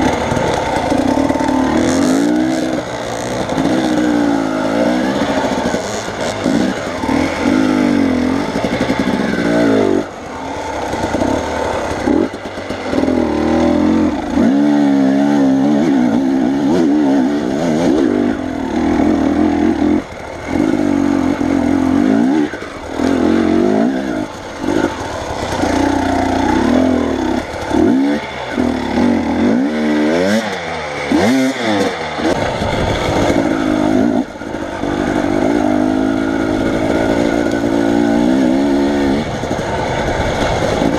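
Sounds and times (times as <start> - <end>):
vehicle engine revving: 0.0 - 40.9.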